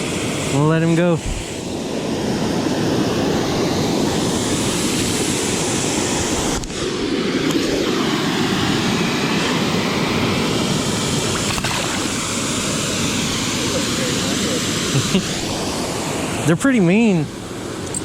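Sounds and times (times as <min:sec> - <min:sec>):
waterfall rushing roar: 0:00.0 - 0:17.8.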